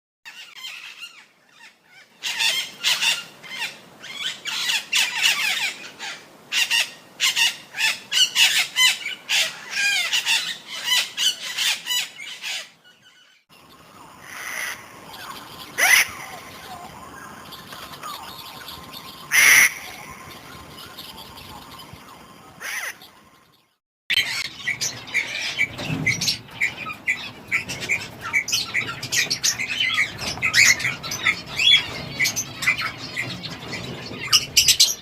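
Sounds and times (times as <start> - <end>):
parrots squawking and chattering: 0.3 - 35.0.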